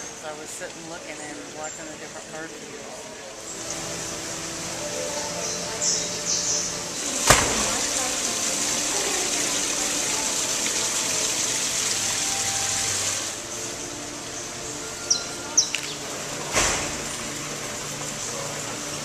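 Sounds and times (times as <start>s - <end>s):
running water hissing: 0.0s - 19.0s.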